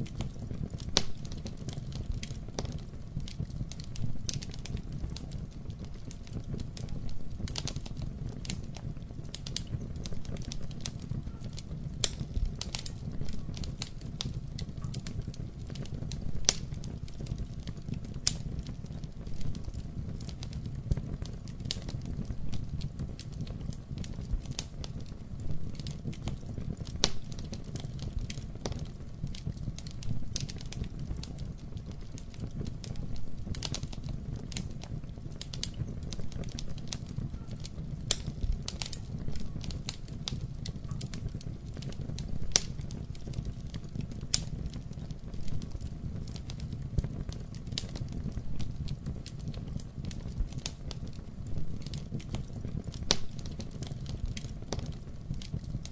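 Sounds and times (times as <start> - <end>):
burning wood crackling and popping: 0.0 - 55.9
low rumble of flames: 0.0 - 55.9.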